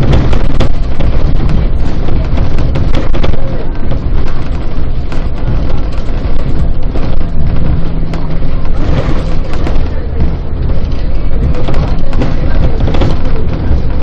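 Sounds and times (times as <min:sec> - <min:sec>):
bus engine drone and road rumble: 0:00.0 - 0:14.0.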